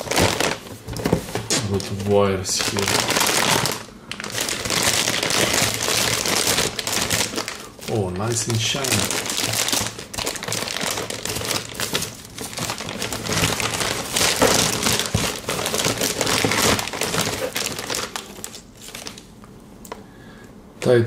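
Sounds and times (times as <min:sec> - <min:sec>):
packaging rustling and crackling: 0:00.0 - 0:19.4.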